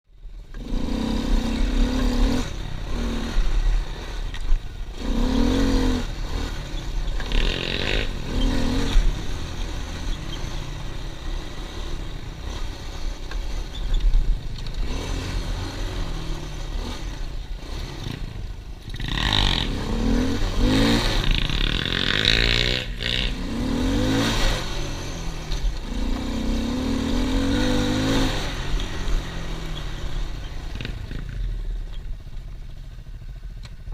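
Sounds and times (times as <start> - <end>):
pit bike engine revving: 0.5 - 31.3.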